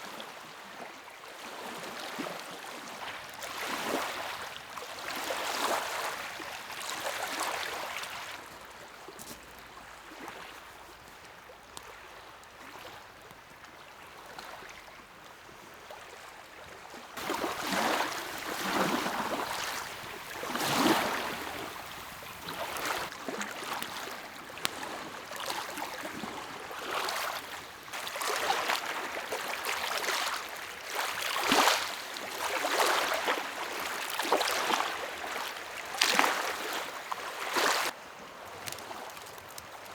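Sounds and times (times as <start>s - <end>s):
lake waves lapping on shore: 0.0s - 9.0s, 15.6s - 39.9s.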